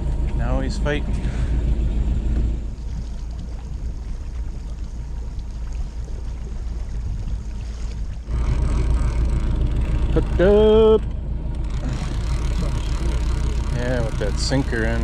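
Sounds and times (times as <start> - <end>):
boat motor rumbling: 0.0 - 15.0
water noise: 0.0 - 15.0.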